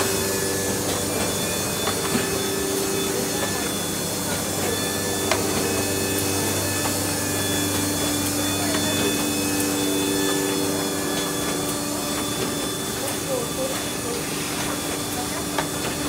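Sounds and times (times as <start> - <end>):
machine hum with held tones: 0.0 - 16.0.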